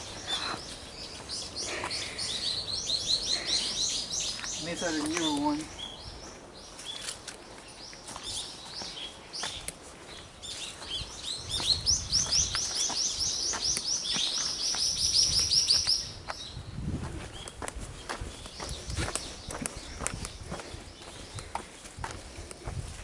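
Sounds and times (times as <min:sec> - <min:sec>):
songbird chirping and trilling: 0:00.0 - 0:22.7.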